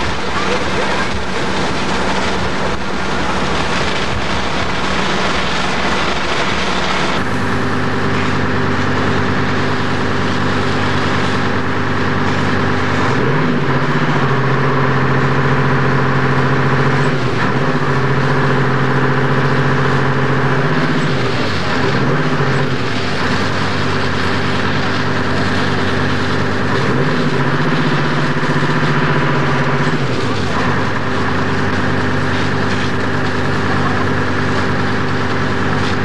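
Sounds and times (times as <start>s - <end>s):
fire engine motor running: 0.0s - 36.0s.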